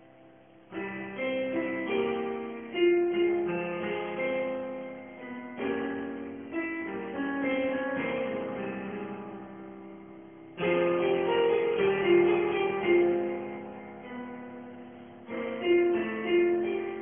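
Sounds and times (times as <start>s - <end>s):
piano playing: 0.0s - 17.0s.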